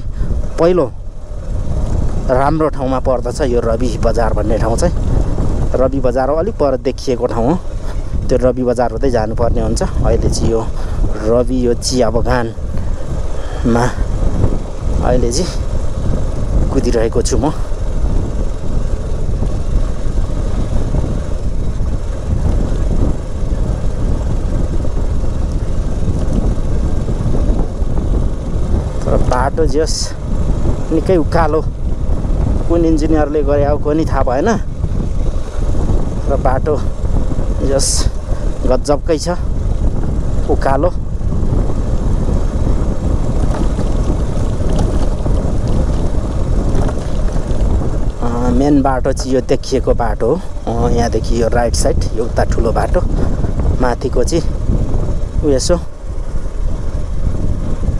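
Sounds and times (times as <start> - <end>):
motorcycle engine rumble: 0.0 - 57.9.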